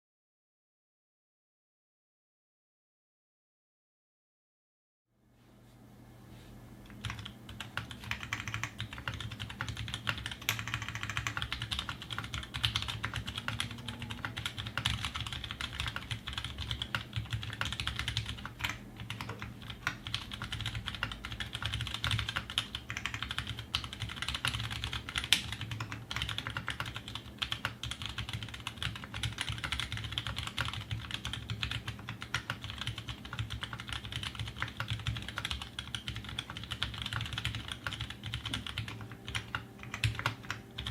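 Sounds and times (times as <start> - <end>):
mechanical keyboard typing: 6.9 - 40.9.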